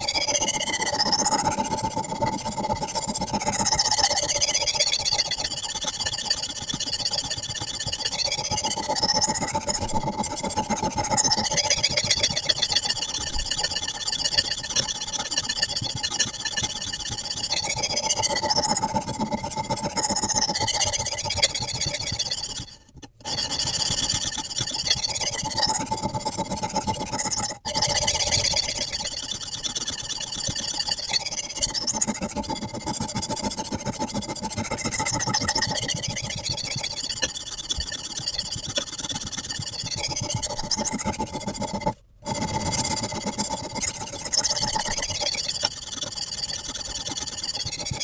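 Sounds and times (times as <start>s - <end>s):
sharpening stone scraping knife: 0.0s - 2.3s, 8.2s - 30.1s, 30.9s - 48.0s.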